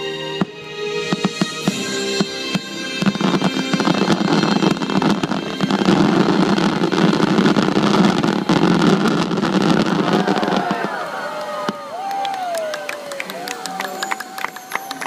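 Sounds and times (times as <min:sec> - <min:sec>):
fireworks bursting: 0:00.4 - 0:12.6
fireworks crackling: 0:00.4 - 0:15.0.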